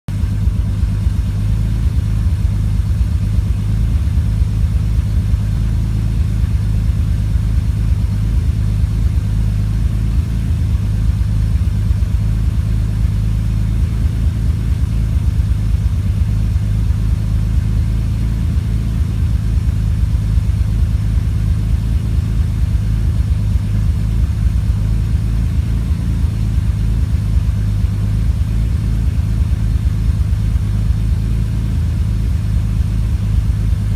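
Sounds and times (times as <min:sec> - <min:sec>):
car engine idling with misfire: 0:00.1 - 0:33.9.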